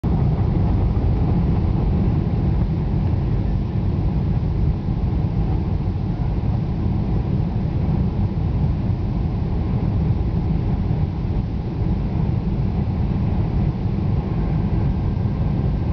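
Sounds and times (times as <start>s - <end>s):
airplane cabin engine rumble: 0.0s - 15.9s.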